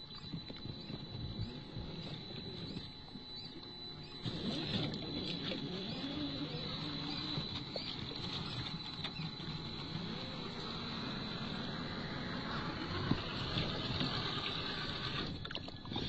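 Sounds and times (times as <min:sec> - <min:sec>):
rc car motor whining: 0:00.0 - 0:16.0.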